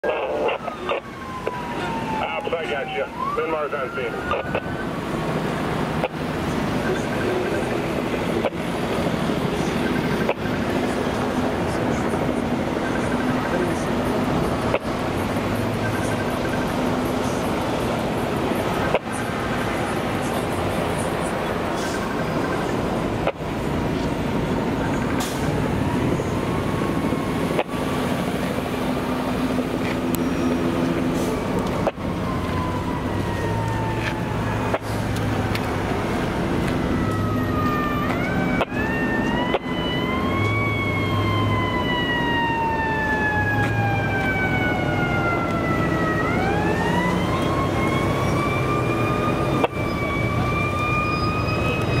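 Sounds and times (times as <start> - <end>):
siren wailing: 0.0 - 52.0
traffic rumble: 0.0 - 52.0.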